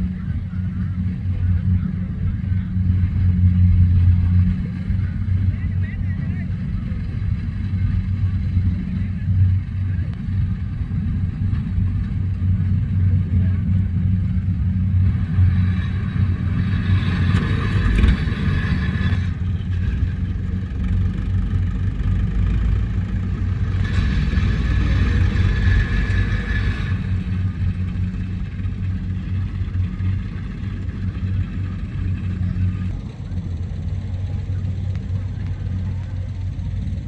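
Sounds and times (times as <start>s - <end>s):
combine harvester engine hum: 0.0s - 37.0s.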